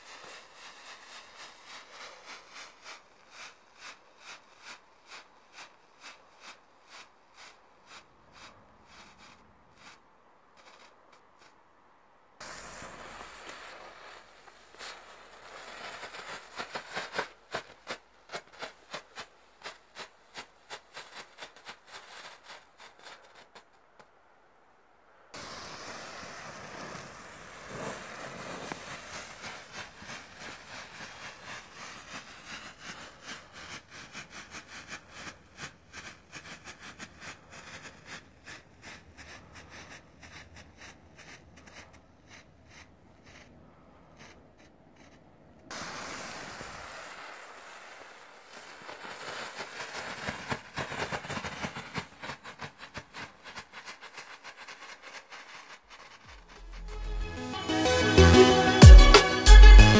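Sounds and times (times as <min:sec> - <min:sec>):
firework pellets cracking and hissing: 0:00.0 - 0:11.6, 0:12.4 - 0:24.0, 0:25.3 - 0:43.6, 0:44.2 - 0:59.9.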